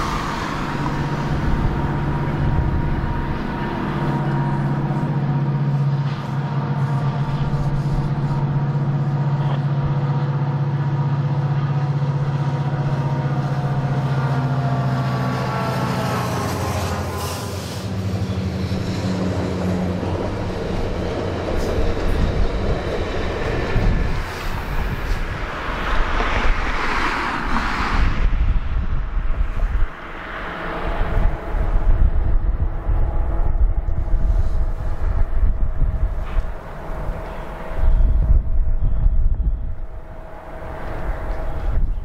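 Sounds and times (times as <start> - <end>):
diesel locomotive engine drone: 0.0 - 42.0
train cars rumbling over rails: 0.0 - 42.0.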